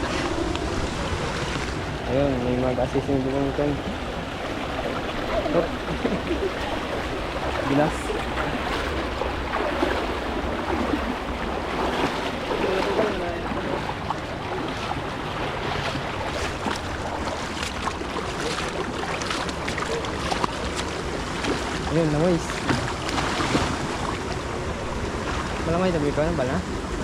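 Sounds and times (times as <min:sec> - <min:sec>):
flowing water rushing: 0:00.0 - 0:27.0
wind buffeting microphone: 0:00.0 - 0:27.0.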